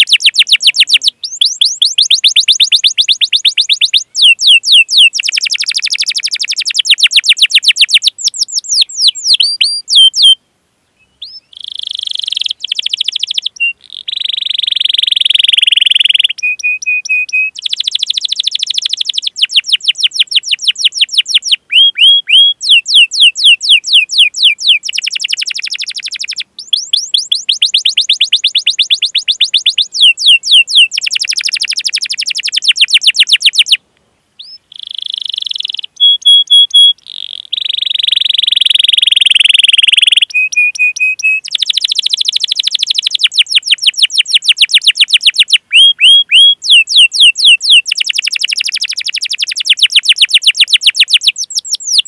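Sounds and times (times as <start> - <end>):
canary singing chirps and trills: 0.0 - 10.4, 11.0 - 33.8, 34.4 - 52.0.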